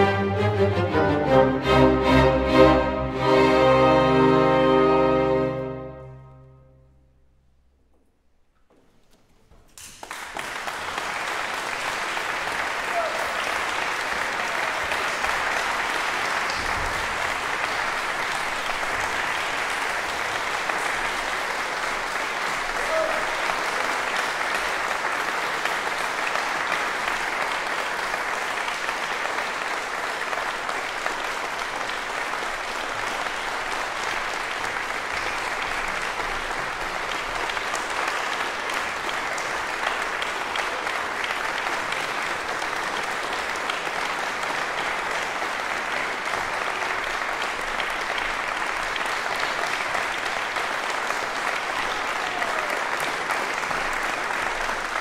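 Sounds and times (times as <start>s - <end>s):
audience applauding: 9.7s - 55.0s.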